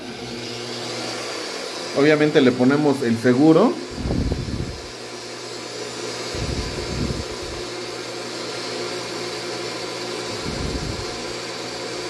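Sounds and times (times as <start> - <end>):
rotary polisher running: 0.0 - 12.0.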